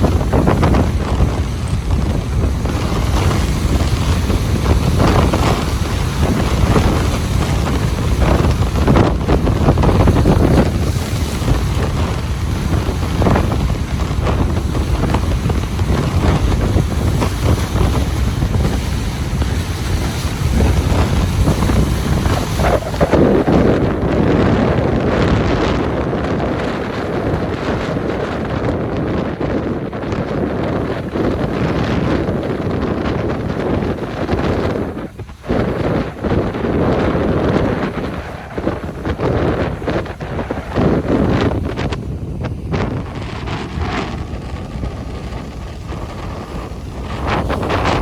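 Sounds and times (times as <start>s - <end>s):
ocean surf breaking: 0.0s - 48.0s
wind rumble on microphone: 0.0s - 48.0s.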